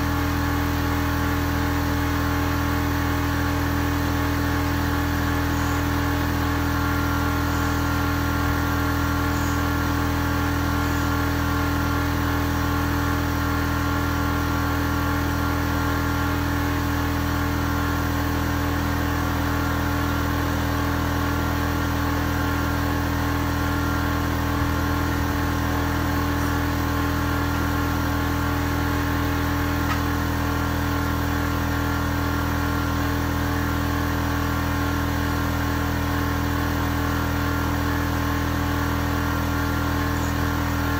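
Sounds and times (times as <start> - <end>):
motor humming: 0.0 - 40.9.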